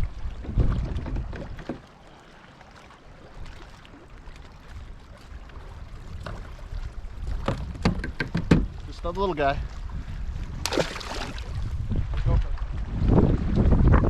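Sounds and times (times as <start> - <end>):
wind rumbling on microphone: 0.0 - 1.8, 3.2 - 14.0.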